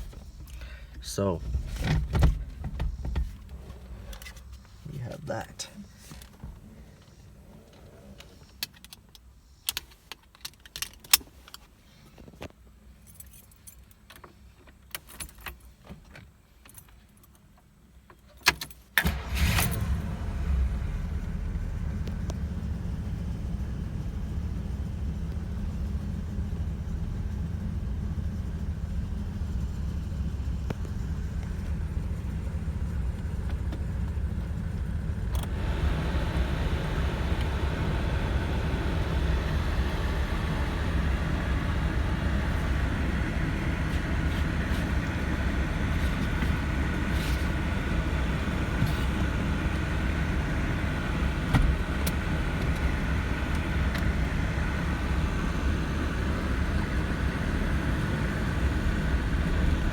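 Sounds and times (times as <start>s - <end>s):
car engine droning: 0.0s - 8.7s, 19.0s - 59.9s.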